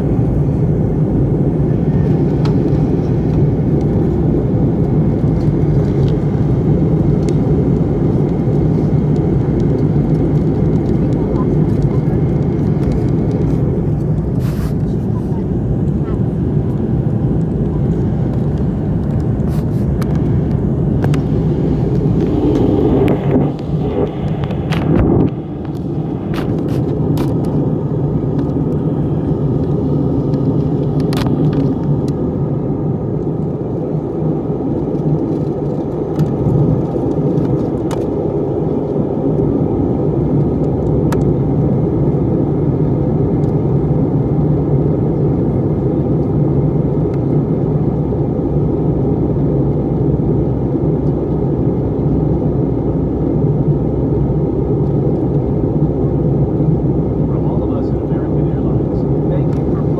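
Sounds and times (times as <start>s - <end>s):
plane cabin engine rumble: 0.0s - 59.9s.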